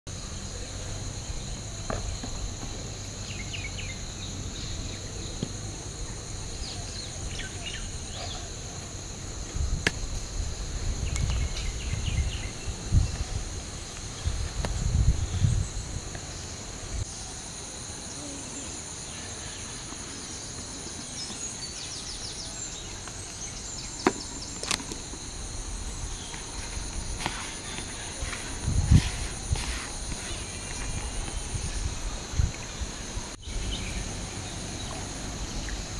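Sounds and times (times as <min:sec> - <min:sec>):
insect chirps: 0:00.1 - 0:35.9
insects droning: 0:00.1 - 0:35.9.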